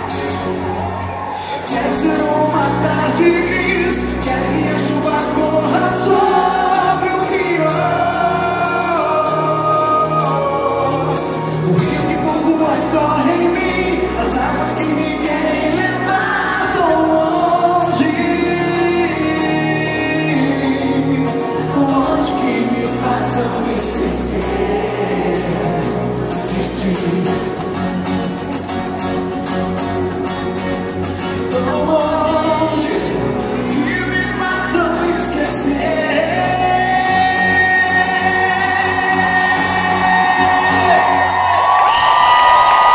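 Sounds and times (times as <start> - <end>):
live band playing pop song: 0.0 - 42.9.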